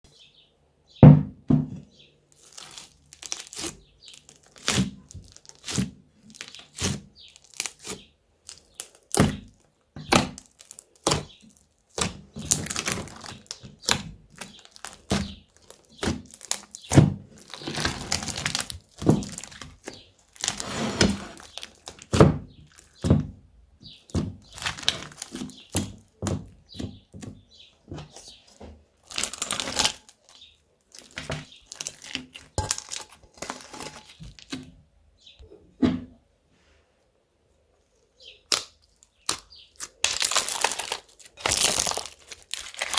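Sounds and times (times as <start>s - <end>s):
slime squishing with sticky pops: 2.4s - 20.6s, 21.4s - 27.5s, 29.0s - 34.6s, 38.4s - 42.9s.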